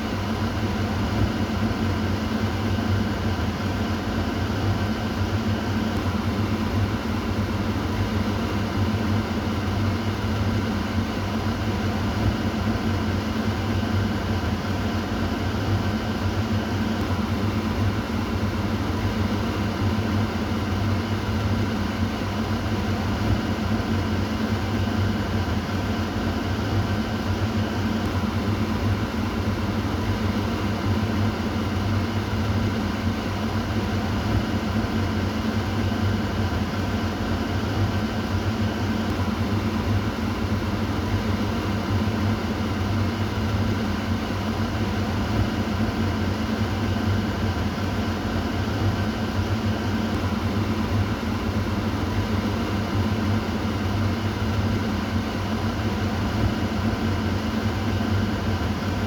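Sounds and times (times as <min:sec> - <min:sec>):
kitchen exhaust fan whirring: 0:00.0 - 0:59.0.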